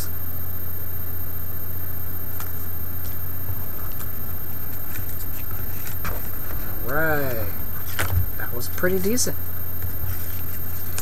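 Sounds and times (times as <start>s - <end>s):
room hum and hiss: 0.0s - 11.0s.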